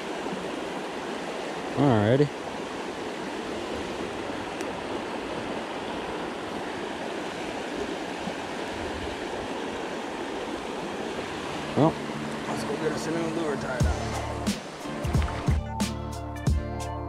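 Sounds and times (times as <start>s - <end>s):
stream water rushing: 0.0s - 15.6s.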